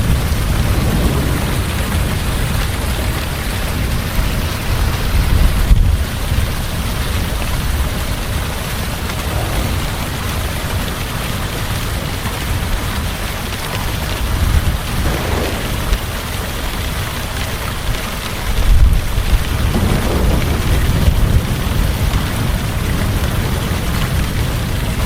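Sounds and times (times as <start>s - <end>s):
heavy rain falling: 0.0s - 25.0s
thunder rumbling: 0.0s - 25.0s.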